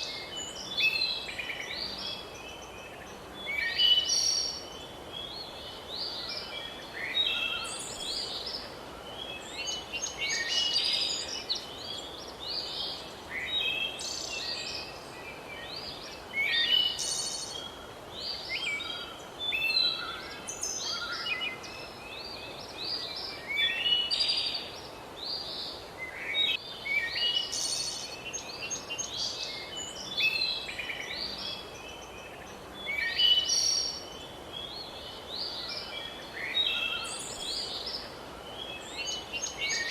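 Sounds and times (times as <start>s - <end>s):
songbirds chirping and singing: 0.0s - 39.9s
steady background hiss: 0.0s - 39.9s.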